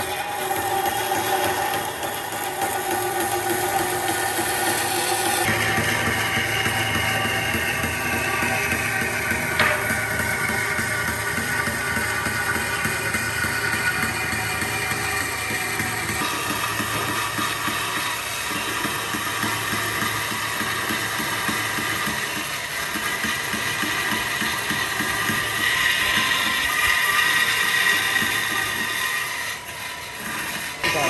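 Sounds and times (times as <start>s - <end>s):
machine rhythmic clatter: 0.0s - 31.0s.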